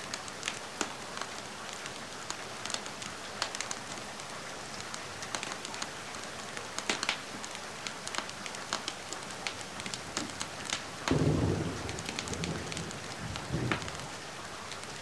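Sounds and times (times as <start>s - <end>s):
steady rain hiss: 0.0s - 15.0s
wood fire crackling: 0.1s - 4.0s, 4.8s - 14.1s.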